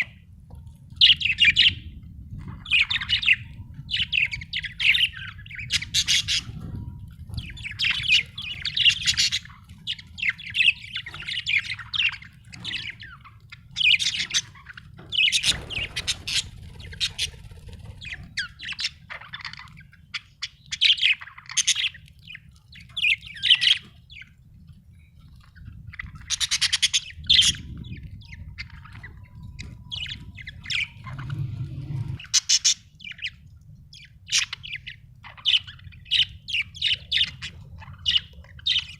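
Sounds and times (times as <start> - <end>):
budgerigars chirping: 0.0 - 0.2, 0.9 - 24.4, 25.4 - 38.9.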